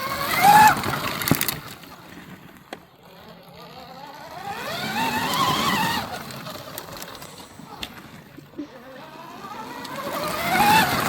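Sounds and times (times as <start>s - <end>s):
dirt bike engine revving: 0.0s - 2.2s, 3.0s - 11.0s.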